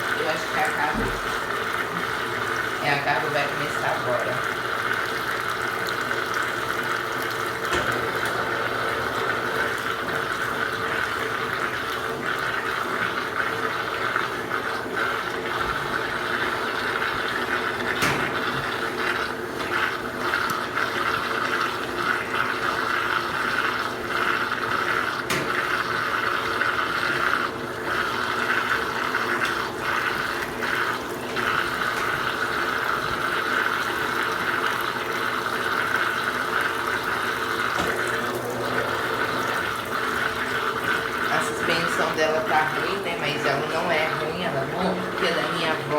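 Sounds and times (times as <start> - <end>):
pump and motor humming: 0.0 - 45.9
water rushing through drain pump: 0.0 - 45.9.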